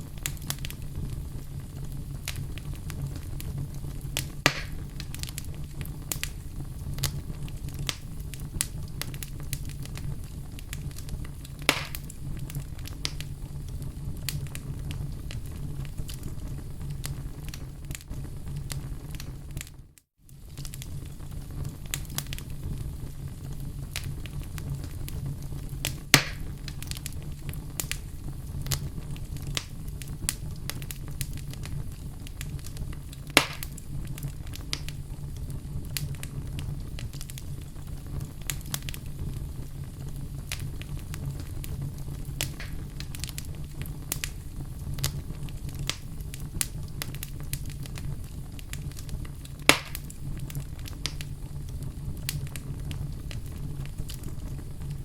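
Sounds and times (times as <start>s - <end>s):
fire crackling: 0.0s - 55.0s
fire flames rumbling: 0.0s - 55.0s
loud fire pops: 0.0s - 55.0s.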